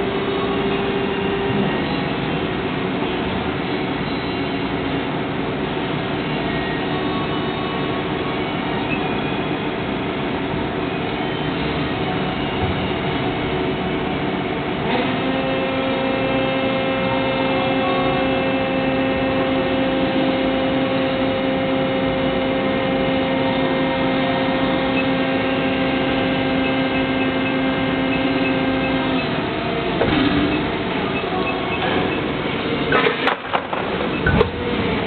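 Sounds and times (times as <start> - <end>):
steady two-pitch whine: 0.0 - 32.9
machine mechanical hum: 0.0 - 35.0.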